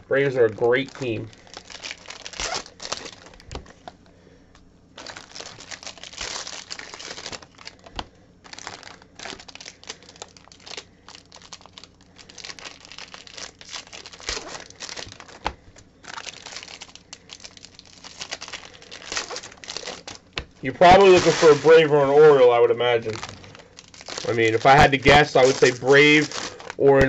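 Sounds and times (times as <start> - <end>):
foil wrappers crinkling and tearing: 0.0 - 4.1, 5.0 - 27.0.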